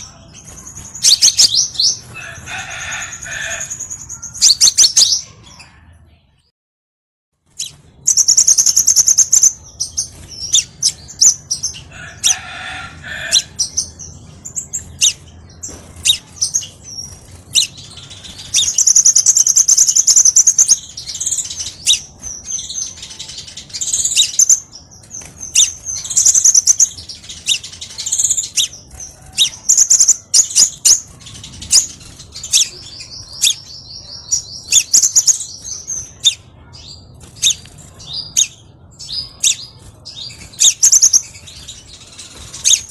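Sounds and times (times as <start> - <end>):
bird trilling and chipping: 0.0 - 5.7, 7.5 - 42.9.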